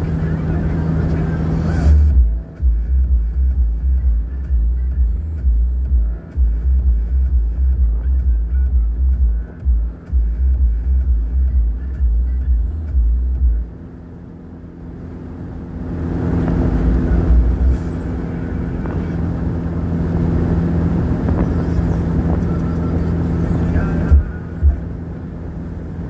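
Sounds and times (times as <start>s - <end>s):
bass-heavy music: 0.0s - 26.0s
car engine hum: 0.0s - 26.0s
road noise: 0.0s - 26.0s.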